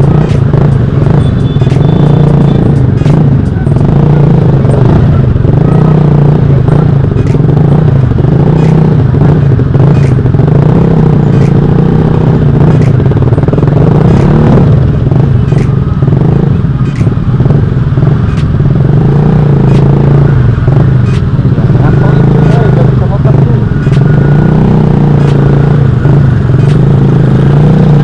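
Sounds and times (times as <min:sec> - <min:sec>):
motorcycle engine with loud exhaust: 0:00.0 - 0:28.0.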